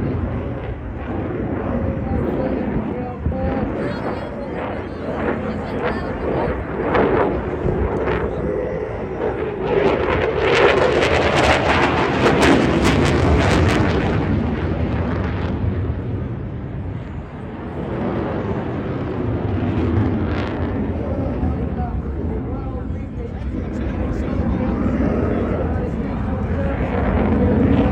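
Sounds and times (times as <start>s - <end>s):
jet fighter passing overhead: 0.0s - 27.9s.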